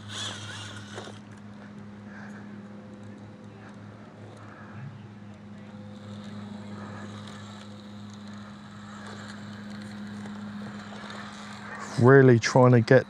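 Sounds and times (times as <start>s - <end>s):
small electric motor humming: 0.0s - 13.0s.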